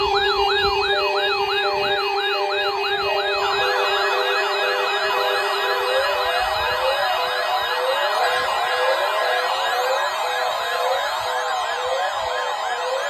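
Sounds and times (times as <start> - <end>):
faster sweeping siren: 0.0 - 11.0
steady siren tone: 0.0 - 13.0
sweeping electronic siren: 0.0 - 13.0.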